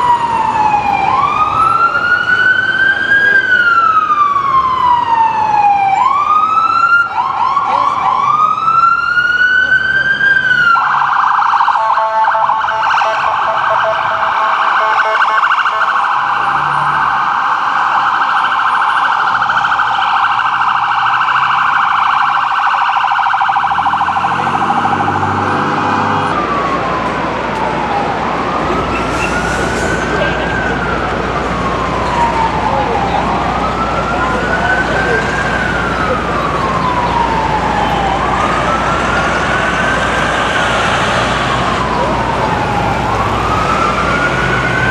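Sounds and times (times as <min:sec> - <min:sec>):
ambulance siren yelp and wail: 0:00.0 - 0:44.9.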